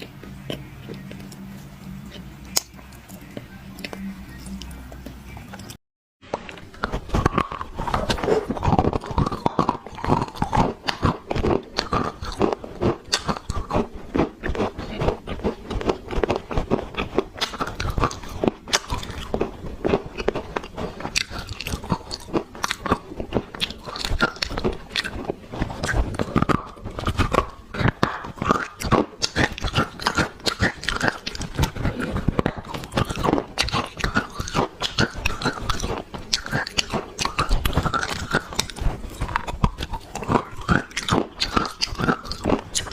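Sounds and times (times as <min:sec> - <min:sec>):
clay crunching while chewed: 0:00.0 - 0:42.9.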